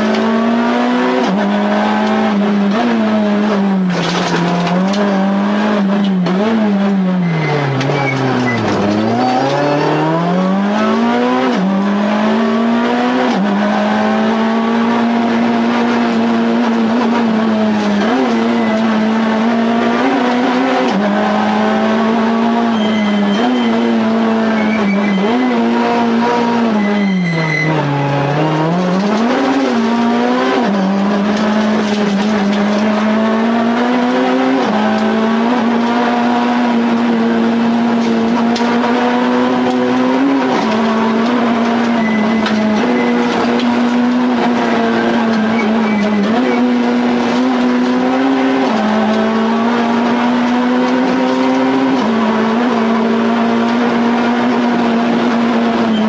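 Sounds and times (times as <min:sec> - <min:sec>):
rally car engine at high revs: 0:00.0 - 0:56.0.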